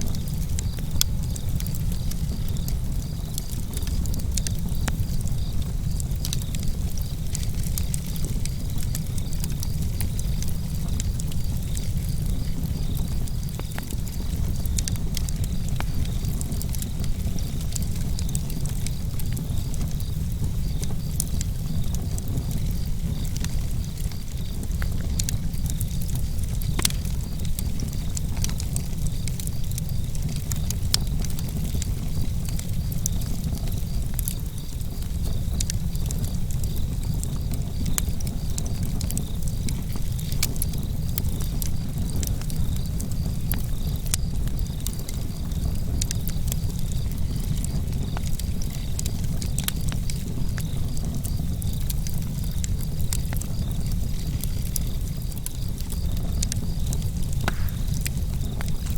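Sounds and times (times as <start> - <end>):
low fire rumble: 0.0 - 58.9
wood fire crackling and popping: 0.0 - 58.9.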